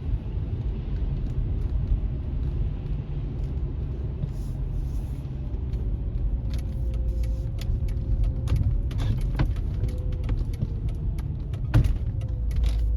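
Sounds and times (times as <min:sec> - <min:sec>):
car engine and road rumble: 0:00.0 - 0:12.9.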